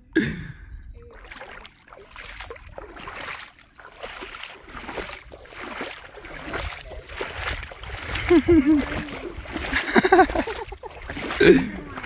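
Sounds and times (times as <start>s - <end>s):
river water sloshing and lapping: 0.0s - 12.0s.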